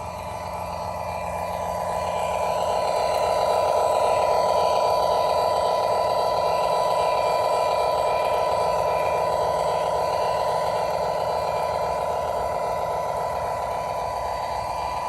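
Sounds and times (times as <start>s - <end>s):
model train hum and rumble: 0.0s - 15.0s.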